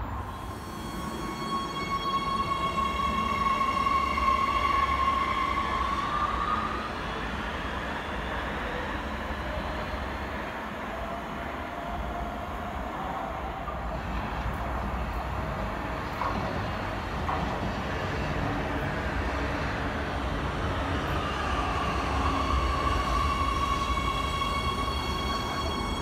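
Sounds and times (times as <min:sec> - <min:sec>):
train running on rails: 0:00.0 - 0:26.0.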